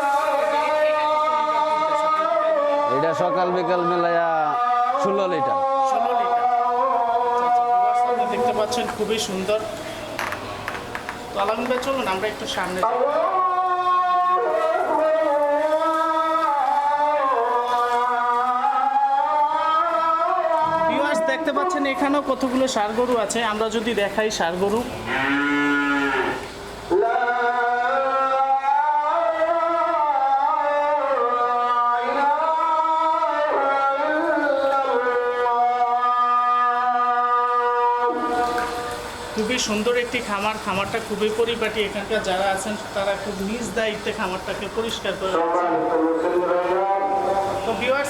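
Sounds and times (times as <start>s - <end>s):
person chanting long held notes: 0.0s - 9.8s, 11.4s - 23.0s, 25.0s - 39.6s, 45.3s - 48.0s.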